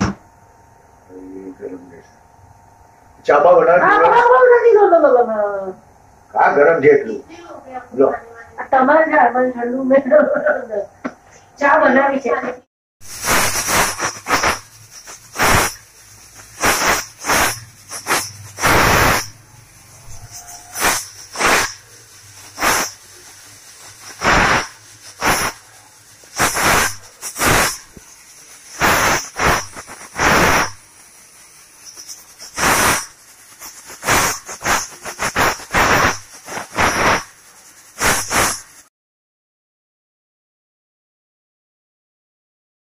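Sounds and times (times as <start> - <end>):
pressure cooker hissing puffs: 0.0 - 10.1, 13.0 - 38.9
soft steady steam hiss: 0.1 - 12.4, 13.0 - 38.9.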